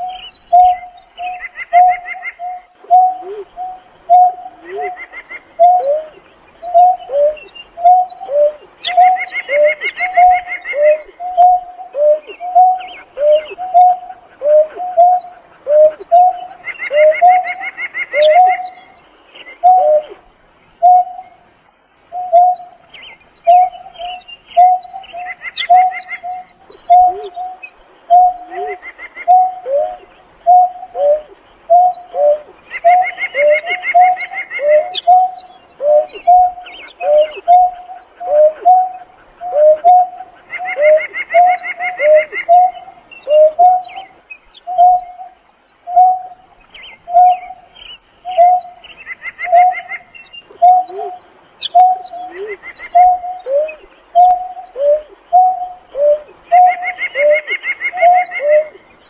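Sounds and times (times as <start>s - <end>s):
bird hooting notes: 0.0s - 21.5s, 22.1s - 58.8s.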